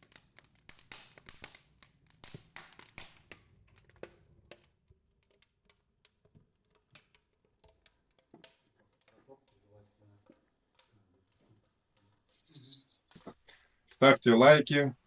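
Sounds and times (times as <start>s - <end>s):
wood fire crackling: 0.0s - 14.8s.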